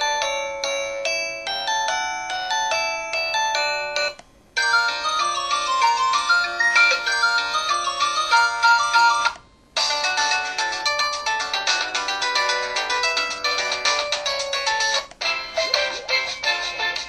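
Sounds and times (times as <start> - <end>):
phone ringtone melodies: 0.0 - 17.0.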